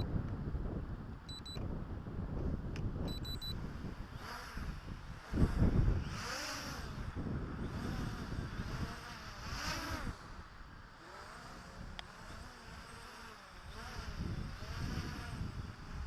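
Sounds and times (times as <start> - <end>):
wind rumbling on microphone: 0.0 - 16.0
drone motors whining: 2.5 - 16.0.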